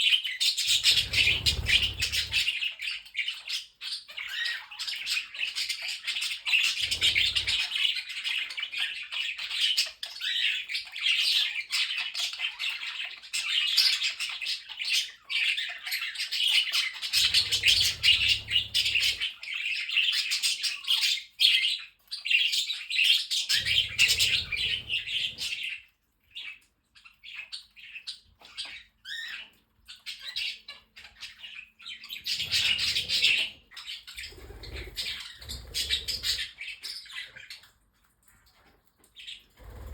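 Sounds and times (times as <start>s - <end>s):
birds chattering and chirping: 0.0s - 39.9s.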